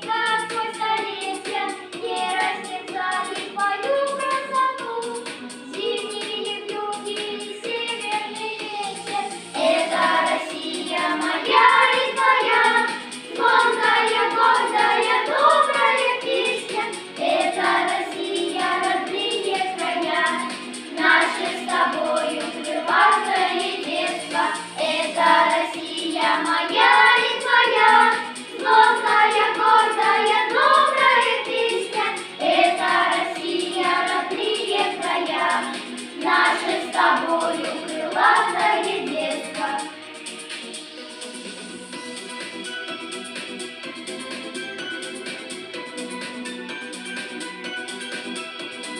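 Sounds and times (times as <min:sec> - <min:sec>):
children singing together: 0:00.0 - 0:40.0
backing music: 0:00.0 - 0:48.9.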